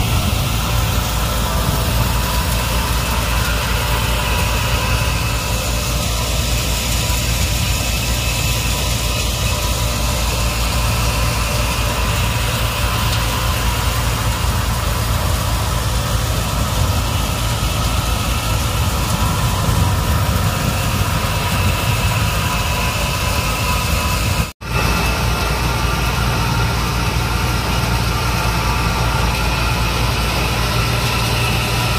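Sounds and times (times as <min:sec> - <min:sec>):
thresher machine drone: 0:00.0 - 0:31.9.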